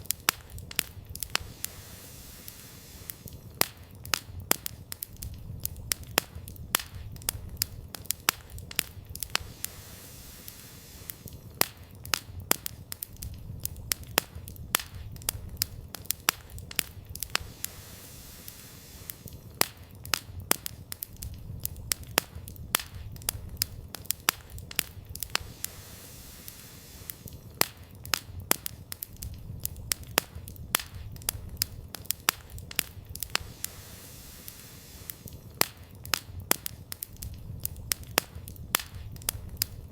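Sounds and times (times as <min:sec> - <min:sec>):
firewood crackling and popping: 0:00.0 - 0:39.9
low rumble of flame: 0:00.0 - 0:39.9.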